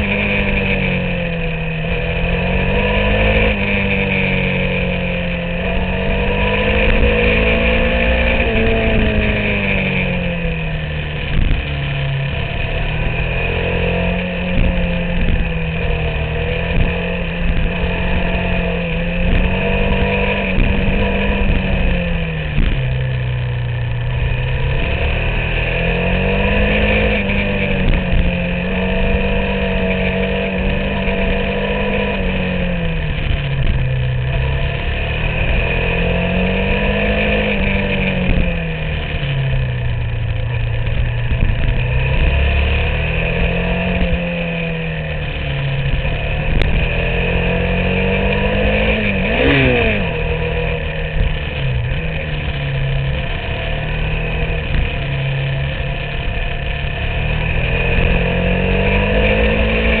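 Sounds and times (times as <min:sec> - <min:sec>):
motorcycle engine revving: 0:00.0 - 1:00.0
wind rumbling on microphone: 0:00.0 - 1:00.0.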